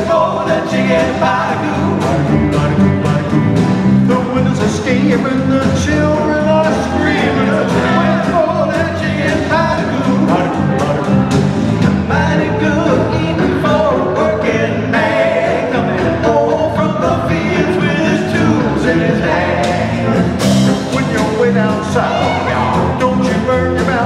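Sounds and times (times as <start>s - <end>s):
acoustic guitar: 0.0s - 24.0s
bass: 0.0s - 24.0s
lead melody line: 0.0s - 24.0s.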